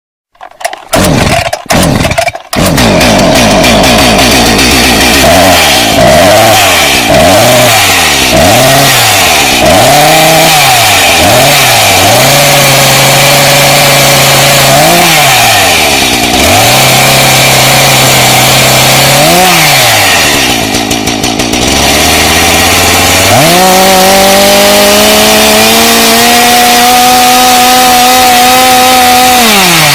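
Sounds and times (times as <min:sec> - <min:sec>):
small engine revving: 0:00.9 - 0:29.9.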